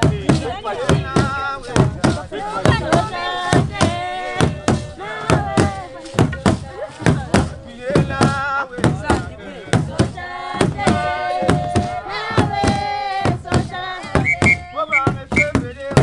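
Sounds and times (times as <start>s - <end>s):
sharp rhythmic strikes: 0.0s - 16.0s
women singing together: 0.0s - 16.0s.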